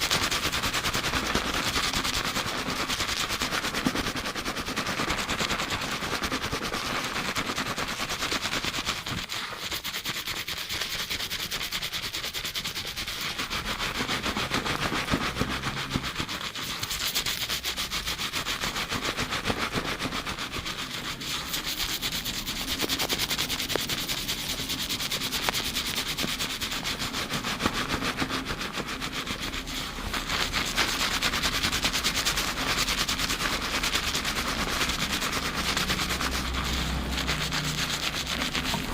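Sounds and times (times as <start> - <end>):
fingers scrubbing lathered hair: 0.0 - 38.9.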